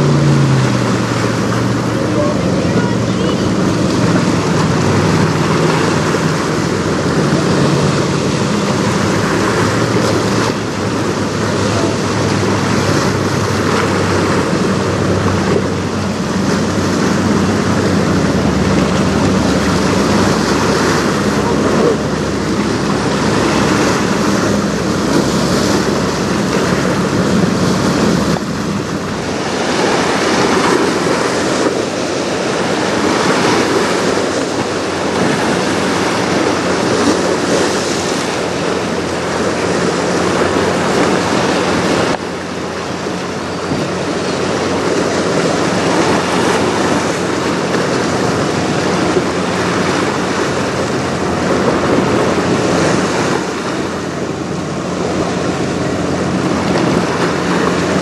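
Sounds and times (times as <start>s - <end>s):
waves washing: 0.0s - 58.0s
wind on microphone: 0.0s - 58.0s.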